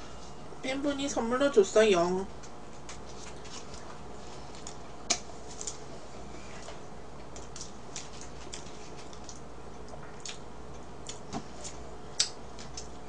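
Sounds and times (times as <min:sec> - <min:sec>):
low room hum: 0:00.0 - 0:13.0
people chewing: 0:02.4 - 0:13.0.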